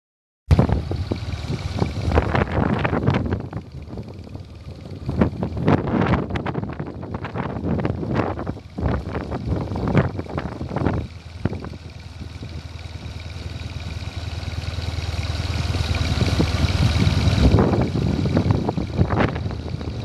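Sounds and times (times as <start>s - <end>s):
wind buffeting microphone: 0.5s - 12.7s, 15.9s - 20.0s
motorcycle engine rumble: 0.5s - 20.0s.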